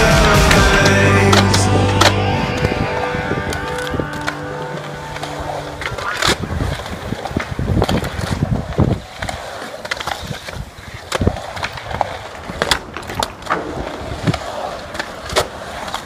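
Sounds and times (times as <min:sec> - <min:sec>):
skateboard clacks: 0:00.0 - 0:16.0
skateboard wheels rolling on concrete: 0:00.0 - 0:16.0.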